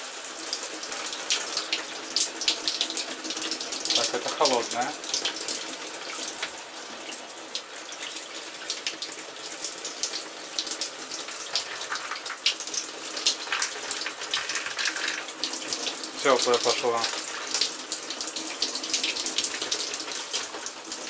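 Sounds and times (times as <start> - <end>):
shower head spraying water: 0.0 - 21.0.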